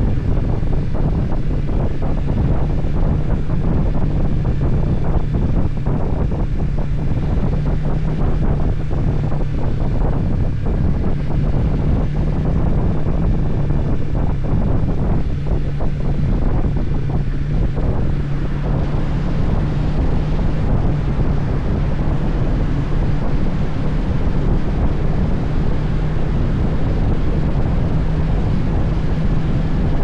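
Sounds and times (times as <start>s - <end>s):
low engine drone: 0.0s - 30.0s
wind buffeting microphone: 0.0s - 30.0s.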